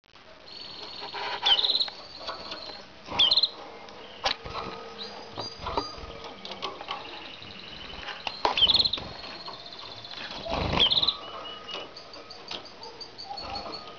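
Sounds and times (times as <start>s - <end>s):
canaries singing trills: 0.5s - 13.9s.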